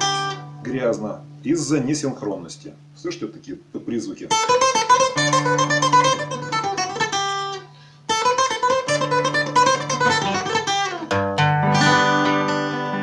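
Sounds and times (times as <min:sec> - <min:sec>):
acoustic guitar plucking: 0:00.0 - 0:13.0.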